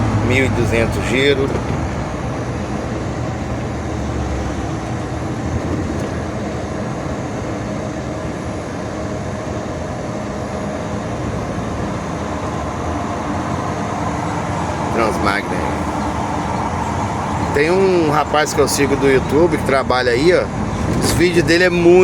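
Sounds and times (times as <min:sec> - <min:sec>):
road noise: 0:00.0 - 0:22.0
truck diesel engine running: 0:00.0 - 0:22.0.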